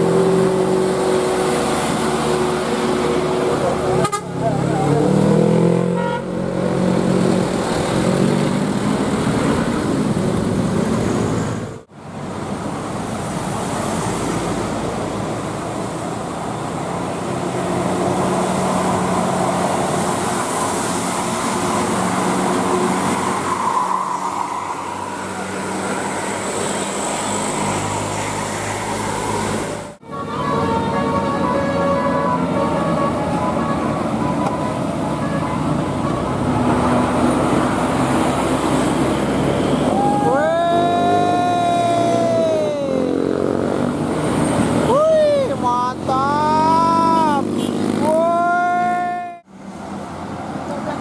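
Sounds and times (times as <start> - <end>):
road traffic passing: 0.0 - 51.0.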